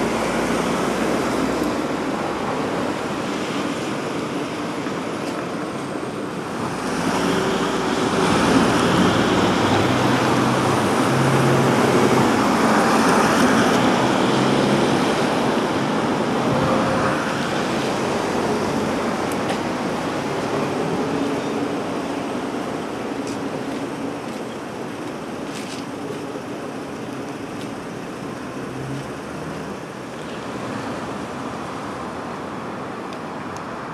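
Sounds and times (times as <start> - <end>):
street traffic noise: 0.0 - 33.9.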